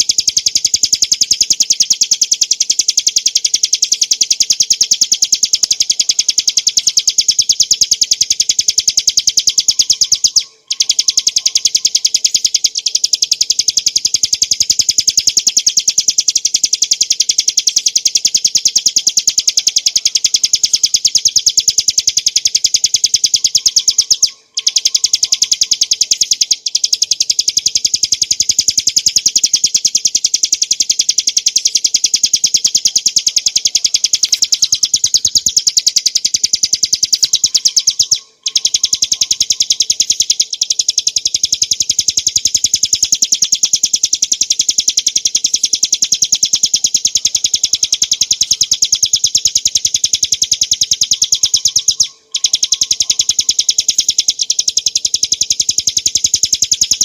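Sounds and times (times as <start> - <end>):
bird singing high sharp notes: 5.0 - 14.1, 19.5 - 57.0.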